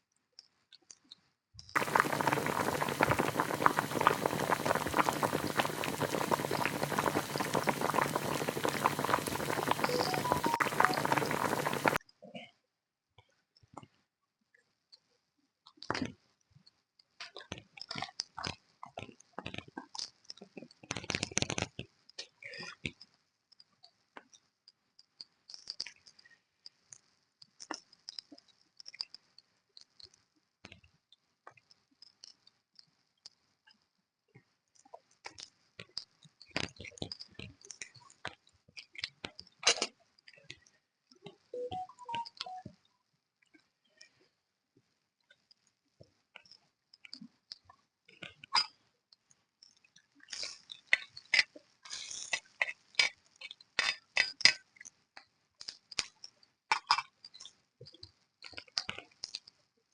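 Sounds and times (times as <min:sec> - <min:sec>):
chewing and crunching food: 0:00.4 - 0:12.6, 0:14.9 - 0:41.5, 0:43.4 - 0:59.9.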